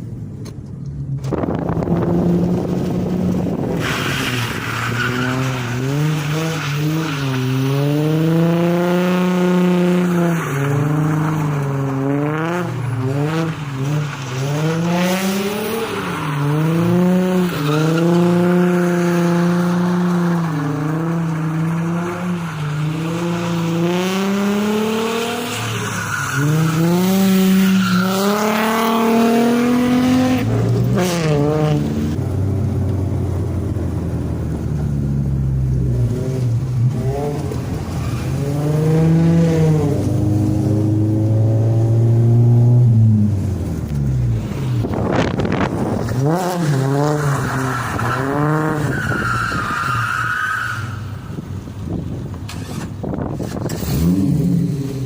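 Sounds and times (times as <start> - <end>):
car engine revving: 0.8 - 51.0, 51.8 - 55.0.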